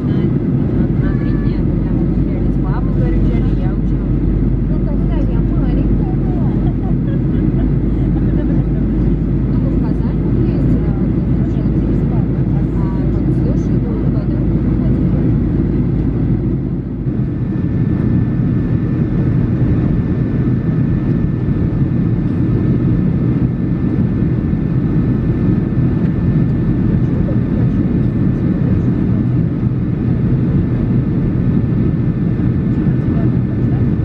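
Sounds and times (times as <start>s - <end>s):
airplane cabin engine rumble: 0.0s - 34.0s.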